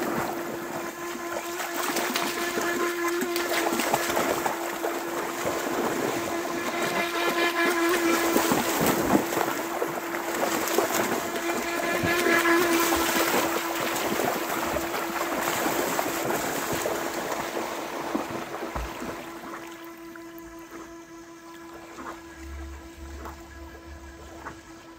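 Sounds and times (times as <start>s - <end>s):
toy boat motor whine: 0.0s - 24.9s
water splashing: 0.0s - 24.9s.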